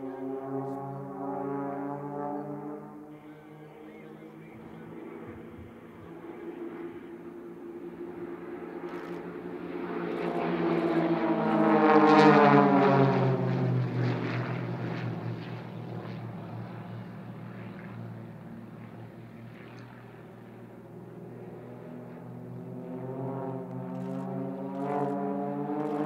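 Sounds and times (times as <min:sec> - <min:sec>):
propeller planes droning overhead: 0:00.0 - 0:26.0.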